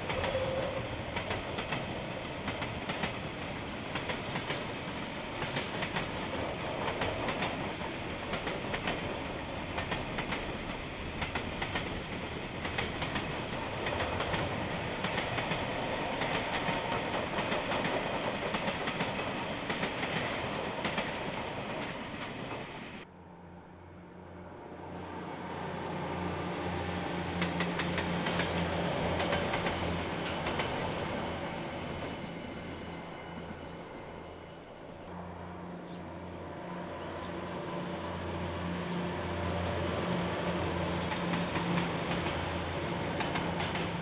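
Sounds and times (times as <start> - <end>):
train rolling past: 0.0 - 44.0.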